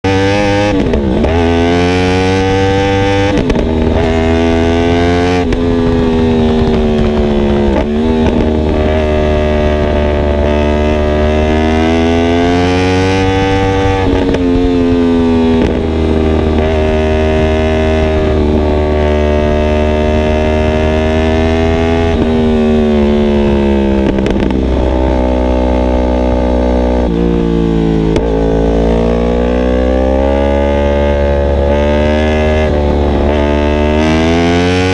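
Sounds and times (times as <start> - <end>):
motorcycle engine at speed: 0.0 - 34.9.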